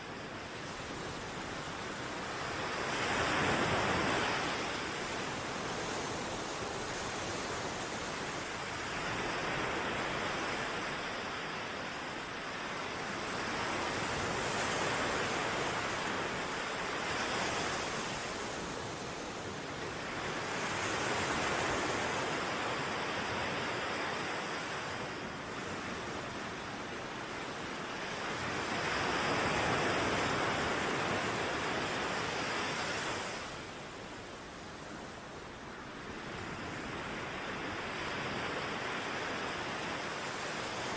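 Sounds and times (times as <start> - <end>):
ocean waves washing onto shore: 0.0 - 40.9.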